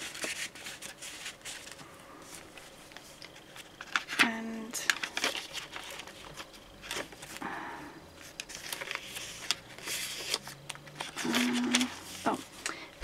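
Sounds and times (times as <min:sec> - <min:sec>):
paper rustling and crinkling: 0:00.0 - 0:07.4, 0:08.2 - 0:12.7.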